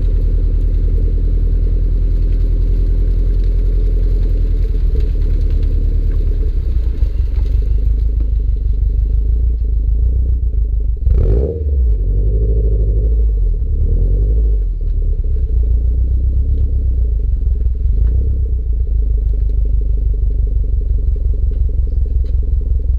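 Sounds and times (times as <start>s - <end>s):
car engine deep rumble: 0.0s - 22.9s.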